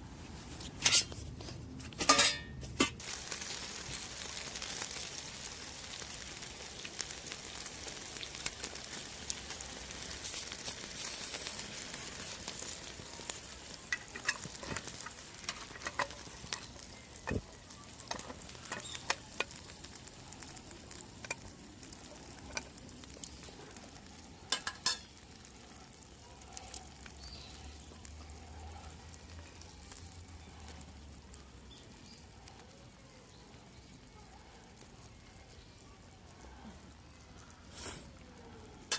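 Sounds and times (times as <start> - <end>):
food sizzling in frying: 2.1 - 34.1, 34.7 - 38.9.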